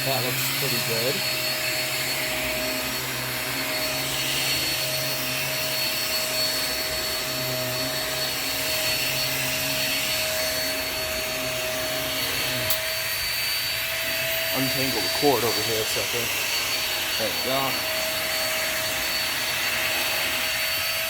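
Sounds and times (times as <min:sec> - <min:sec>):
vacuum cleaner running on carpet: 0:00.0 - 0:21.0.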